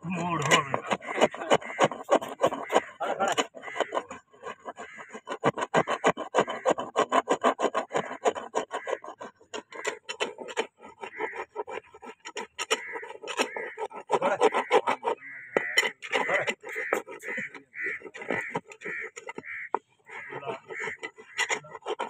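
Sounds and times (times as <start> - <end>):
blade scraping hoof: 0.0 - 22.0.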